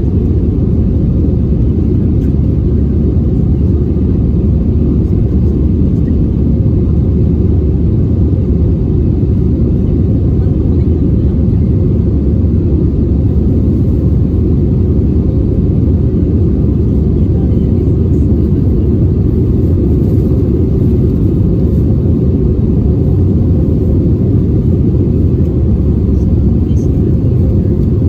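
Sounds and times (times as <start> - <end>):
airliner cabin roar: 0.0 - 28.0.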